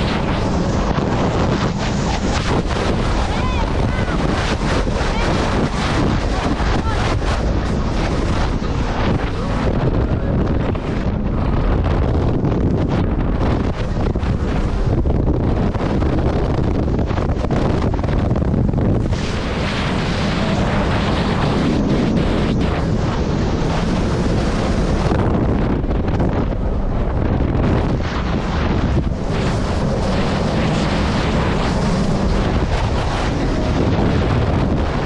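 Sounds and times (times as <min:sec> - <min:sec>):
jet ski engine: 0:00.0 - 0:35.0
water rushing: 0:00.0 - 0:35.0
wind buffeting microphone: 0:00.0 - 0:35.0.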